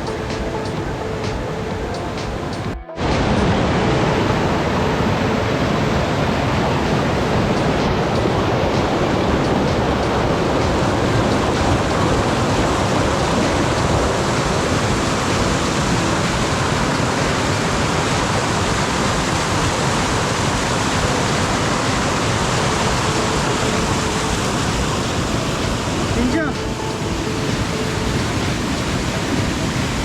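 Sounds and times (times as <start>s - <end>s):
waterfall and stream rushing: 0.0s - 30.0s.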